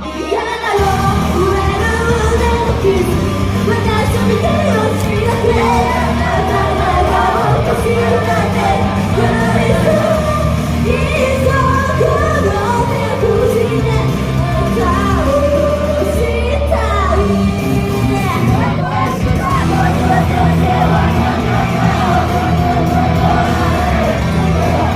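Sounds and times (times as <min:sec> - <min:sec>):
backing track with heavy bass: 0:00.0 - 0:24.9
voices singing pop melody: 0:00.0 - 0:24.9.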